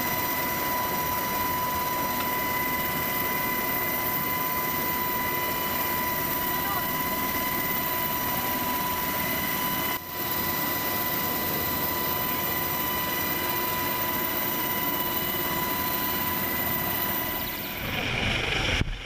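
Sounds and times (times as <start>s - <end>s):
helicopter rotor noise: 0.0s - 19.0s
helicopter turbine whine: 0.0s - 19.0s.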